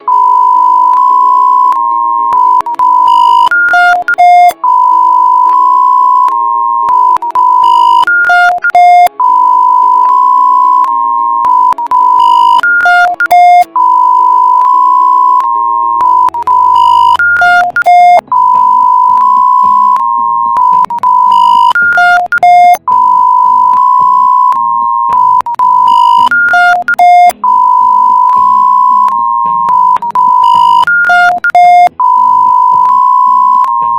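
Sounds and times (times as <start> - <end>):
electronic alert tone: 0.0 - 33.9
short high and low beeps: 0.0 - 33.9.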